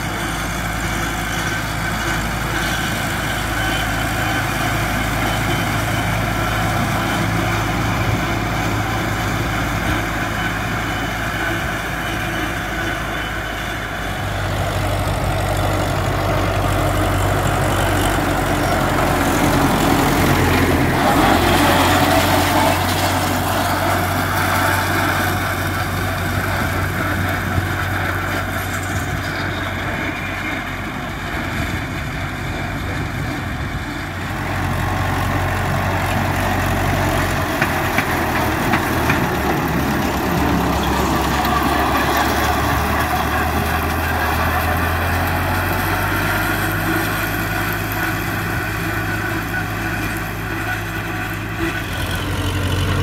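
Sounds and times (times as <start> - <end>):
rotary mower cutting: 0.0 - 53.0
tractor diesel engine running: 0.0 - 53.0.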